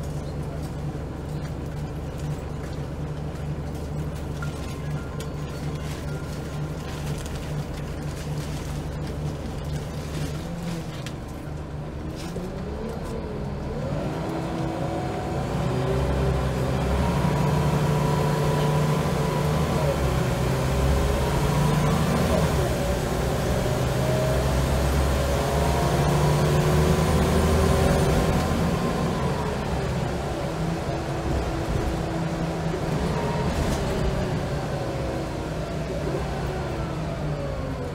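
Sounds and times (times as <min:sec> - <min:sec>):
bus diesel engine accelerating: 0:00.0 - 0:37.9.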